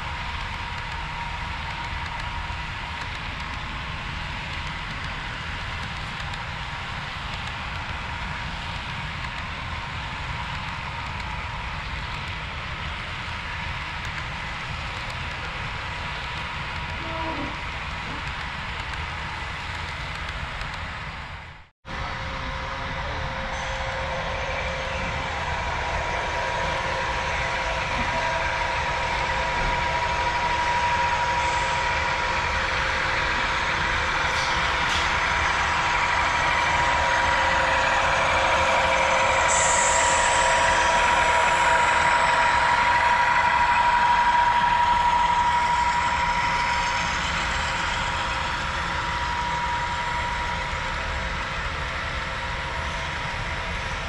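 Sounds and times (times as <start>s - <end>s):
model train diesel engine drone: 0.0s - 54.0s.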